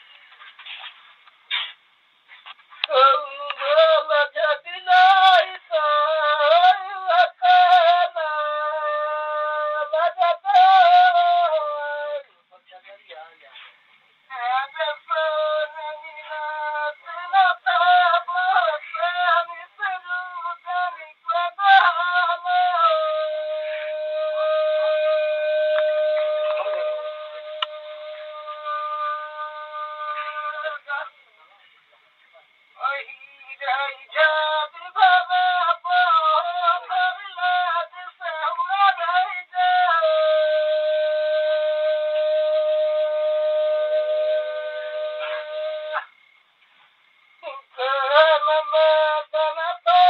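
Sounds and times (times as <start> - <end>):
person singing folk song: 0.0 - 50.0.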